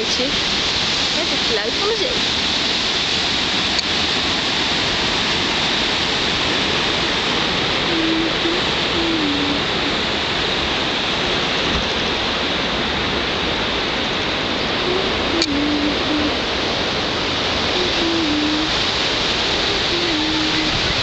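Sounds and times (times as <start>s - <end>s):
ocean surf breaking on rocks: 0.0s - 21.0s.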